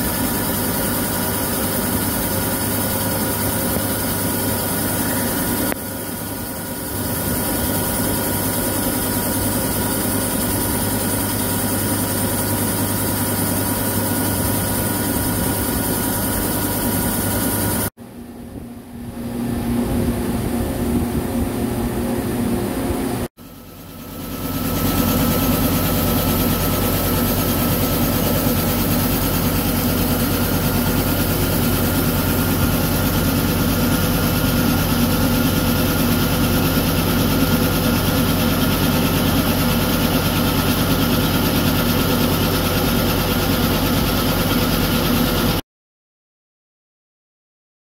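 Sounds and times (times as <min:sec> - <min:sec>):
constant machine whine: 0:00.0 - 0:45.6.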